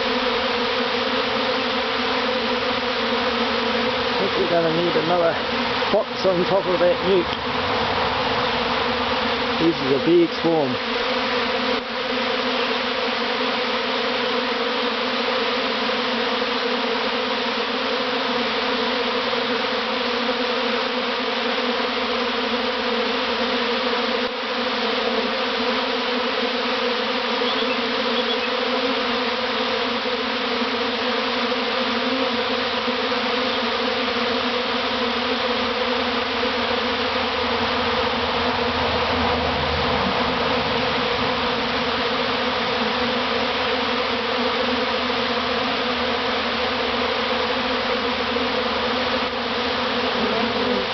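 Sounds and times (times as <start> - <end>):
honeybee swarm buzzing: 0.0 - 50.9.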